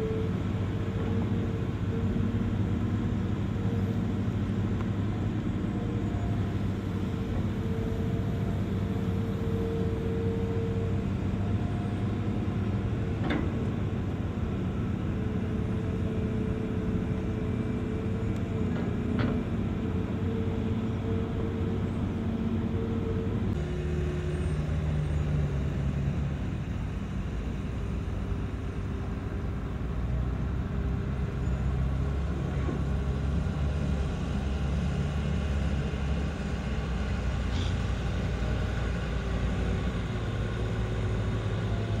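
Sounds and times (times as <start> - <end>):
heavy diesel engine rumbling: 0.0 - 42.0.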